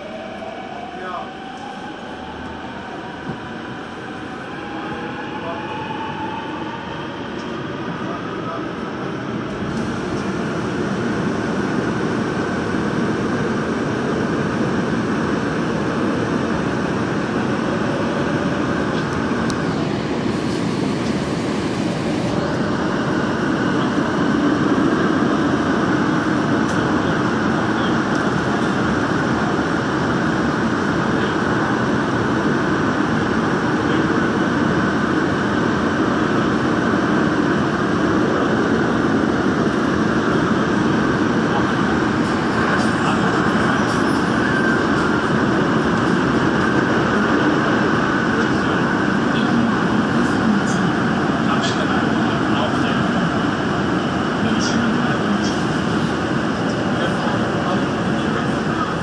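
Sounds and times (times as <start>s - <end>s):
subway train wheels on rail: 0.0s - 59.0s.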